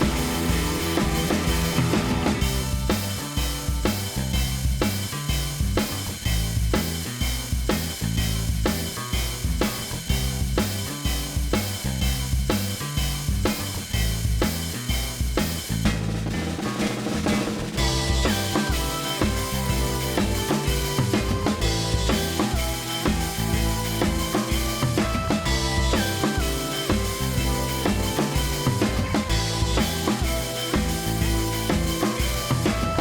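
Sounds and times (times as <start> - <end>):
repeating bass line: 0.0 - 16.4, 17.8 - 33.0
drum-kit beat: 0.0 - 33.0.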